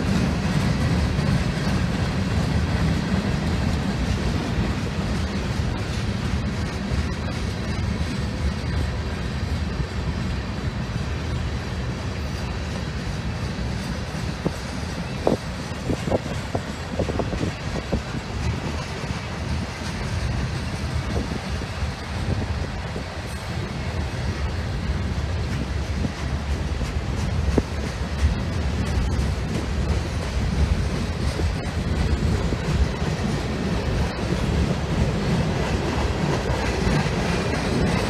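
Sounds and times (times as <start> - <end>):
sharp clicks of train wheels: 0.0 - 38.0
train wheels rumbling on rail: 0.0 - 38.0.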